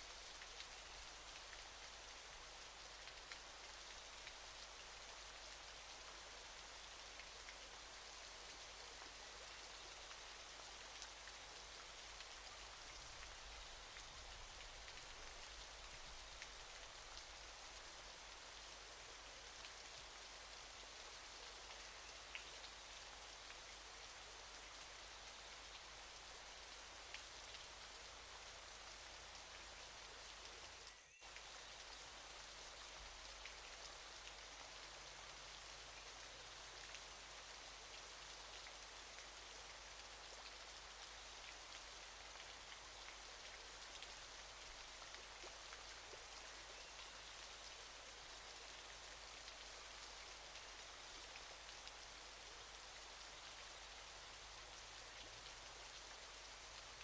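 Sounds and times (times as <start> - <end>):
waterfall hiss: 0.0 - 57.0.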